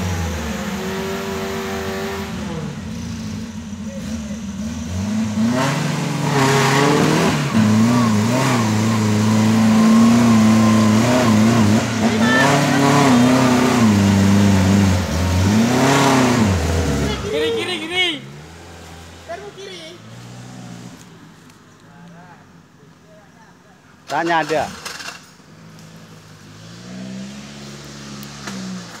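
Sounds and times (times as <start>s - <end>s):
off-road vehicle engine revving hard: 0.0s - 19.2s, 19.9s - 21.0s, 24.4s - 29.0s.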